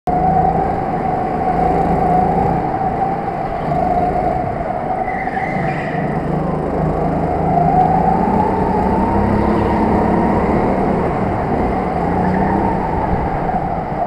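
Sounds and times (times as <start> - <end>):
go-kart motor droning: 0.1 - 14.0.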